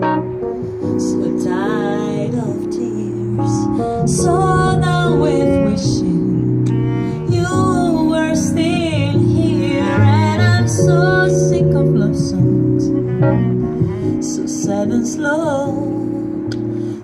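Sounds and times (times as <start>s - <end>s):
plucked double bass: 0.0s - 16.7s
piano chords: 0.0s - 17.0s
woman singing: 0.8s - 13.1s, 14.0s - 16.6s.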